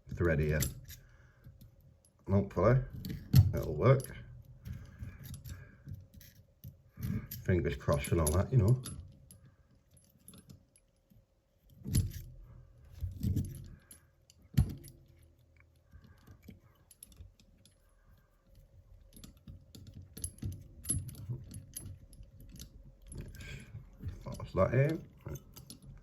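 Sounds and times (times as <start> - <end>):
handcuffs clinking and rattling: 0.2 - 2.2, 2.9 - 26.0
small metal clicks: 2.9 - 26.0.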